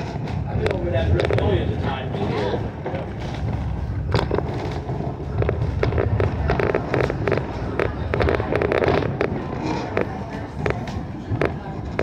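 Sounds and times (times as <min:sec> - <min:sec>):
train clacks and rattles: 0:00.0 - 0:12.0
train coach rumbling: 0:00.0 - 0:12.0.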